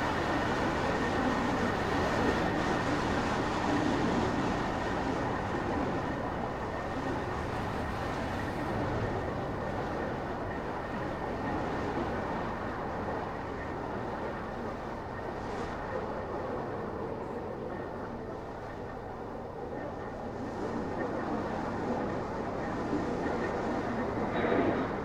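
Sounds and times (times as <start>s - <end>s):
faint thin whine: 0.0s - 25.0s.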